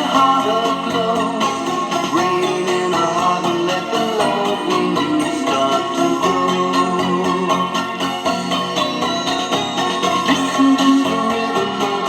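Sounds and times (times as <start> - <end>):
instrumental pop music: 0.0 - 12.0.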